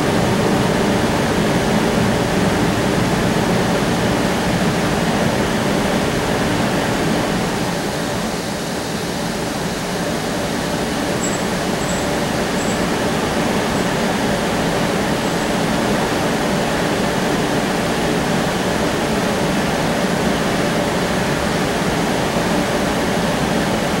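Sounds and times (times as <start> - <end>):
streetcar running rumble: 0.0 - 24.0
ventilation: 0.0 - 24.0.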